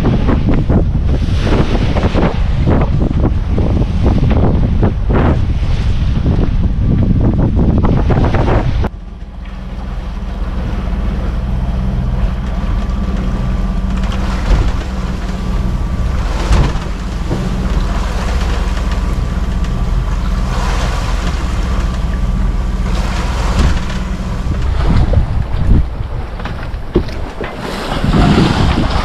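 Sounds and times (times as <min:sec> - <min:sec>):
boat engine running: 0:00.0 - 0:29.0
water rushing against hull: 0:00.0 - 0:29.0
wind surges: 0:00.0 - 0:29.0.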